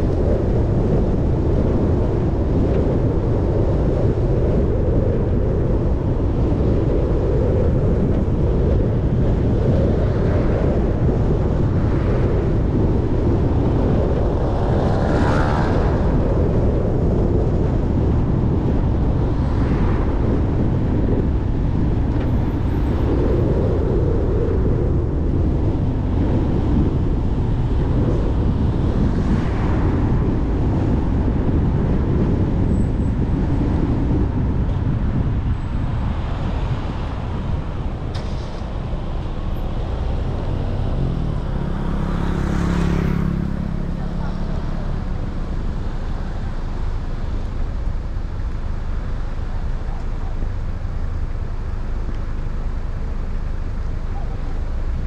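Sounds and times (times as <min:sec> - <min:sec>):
road and engine noise: 0:00.0 - 0:55.0
wind rushing: 0:00.0 - 0:55.0.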